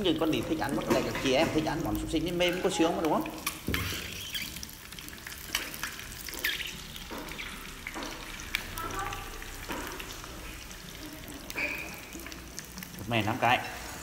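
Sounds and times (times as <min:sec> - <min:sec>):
sausages sizzling in oil: 0:00.0 - 0:14.0.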